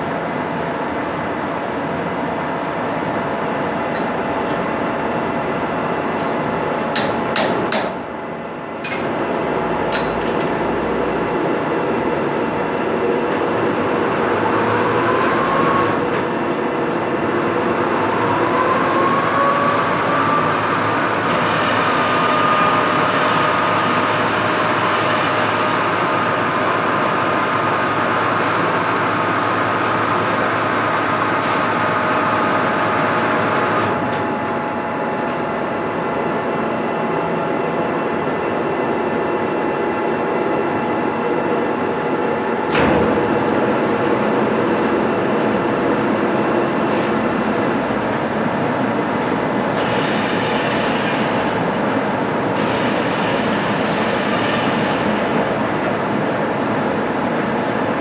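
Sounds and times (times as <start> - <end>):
machine tools droning: 2.8 - 58.0.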